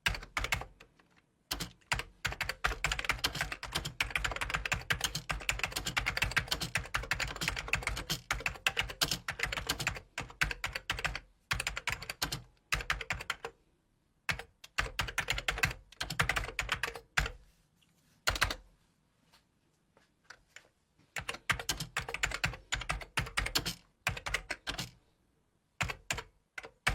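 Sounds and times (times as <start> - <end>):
computer keyboard typing: 0.0 - 13.6, 14.3 - 17.4, 18.3 - 18.6, 21.2 - 25.0, 25.8 - 26.9.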